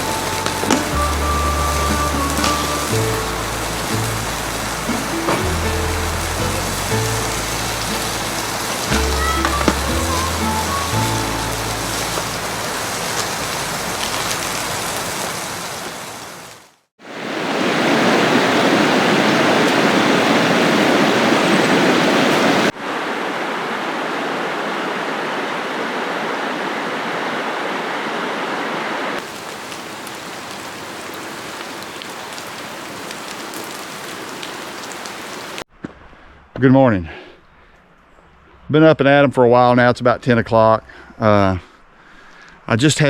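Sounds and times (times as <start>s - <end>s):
mountain stream rushing: 0.0s - 35.7s
rain falling: 0.0s - 35.7s.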